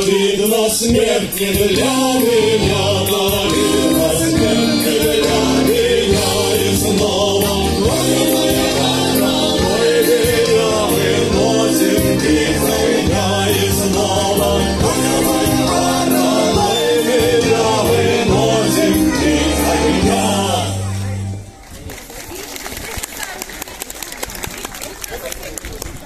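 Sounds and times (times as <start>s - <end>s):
choir singing with accompaniment: 0.0s - 20.9s.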